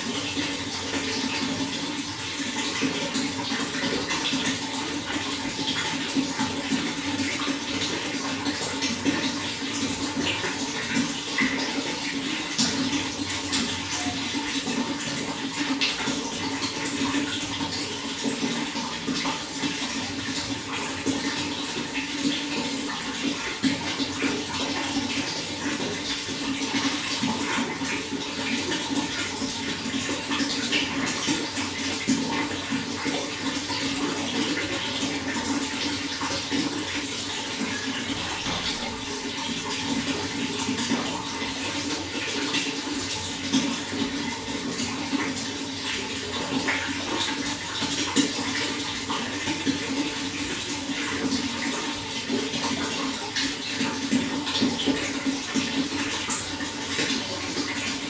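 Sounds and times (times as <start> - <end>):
running water splashing: 0.0 - 58.0.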